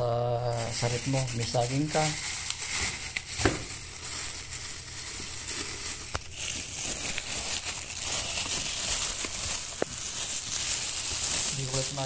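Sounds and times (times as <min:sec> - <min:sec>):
plastic bag crinkling: 0:00.5 - 0:12.0.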